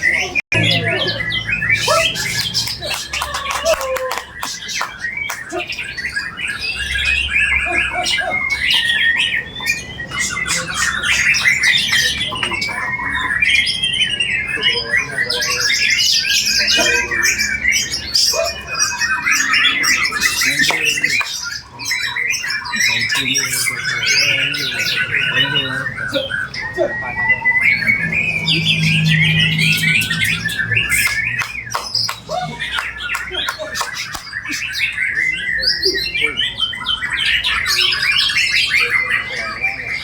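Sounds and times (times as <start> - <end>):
songbird singing whistles and trills: 0.0 - 40.0.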